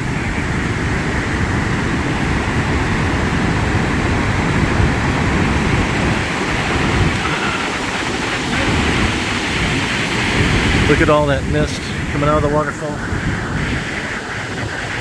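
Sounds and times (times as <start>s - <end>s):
waterfall rushing: 0.0s - 15.0s
wind buffeting microphone: 0.0s - 15.0s.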